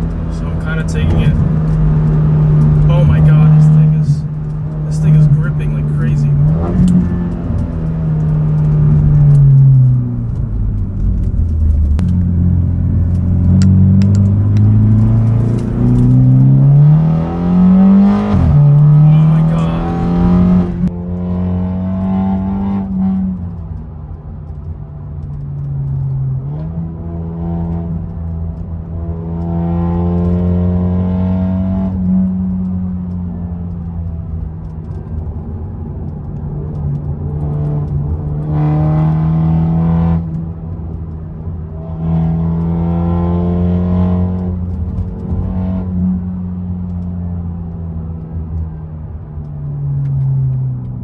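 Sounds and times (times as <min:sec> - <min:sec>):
car engine accelerating: 0:00.0 - 0:51.0.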